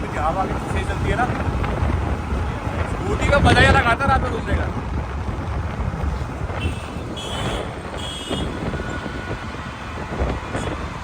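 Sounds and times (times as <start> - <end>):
road rumble: 0.0 - 11.0
wind buffeting microphone: 0.0 - 11.0.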